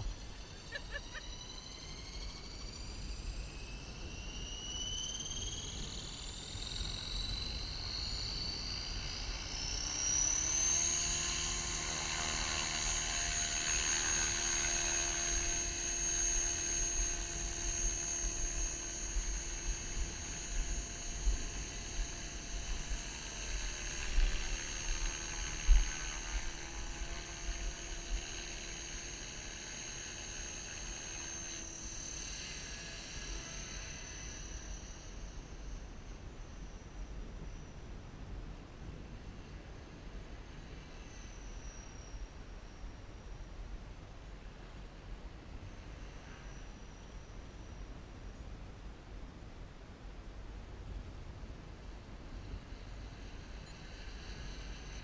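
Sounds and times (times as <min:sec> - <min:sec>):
rc helicopter motor whine: 0:00.0 - 0:48.5, 0:51.3 - 0:55.0.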